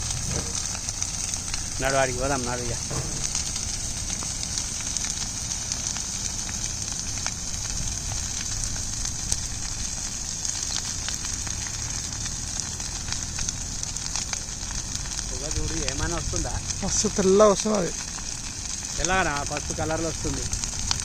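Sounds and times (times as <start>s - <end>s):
fire rumble and hiss: 0.0s - 21.0s
grass fire crackling and popping: 0.0s - 21.0s.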